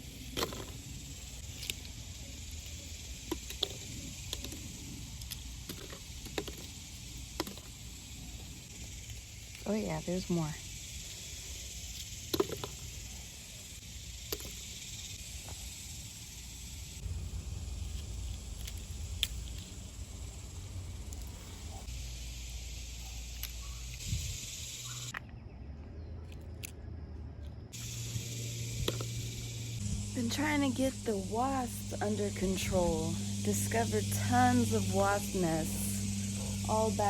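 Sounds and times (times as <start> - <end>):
cicadas droning: 0.0 - 37.0.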